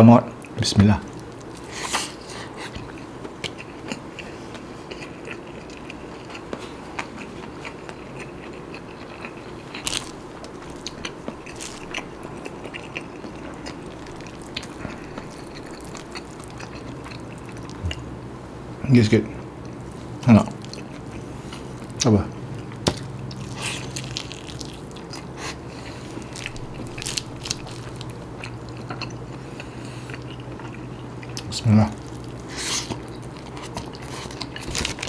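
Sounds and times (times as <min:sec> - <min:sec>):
wet chewing mouth sounds: 0:00.4 - 0:18.1, 0:22.6 - 0:35.0.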